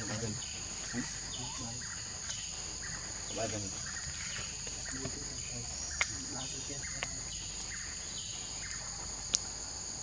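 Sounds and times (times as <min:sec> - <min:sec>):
forest insects droning: 0:00.0 - 0:10.0.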